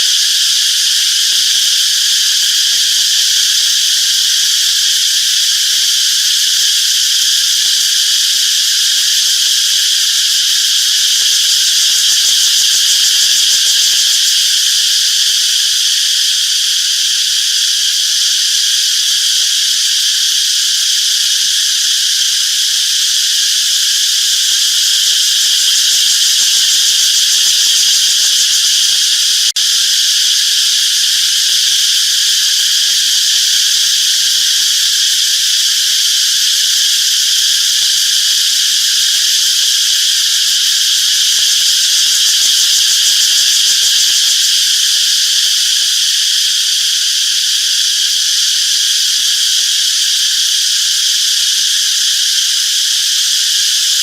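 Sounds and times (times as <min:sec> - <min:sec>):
insect chorus buzzing: 0:00.0 - 0:54.0.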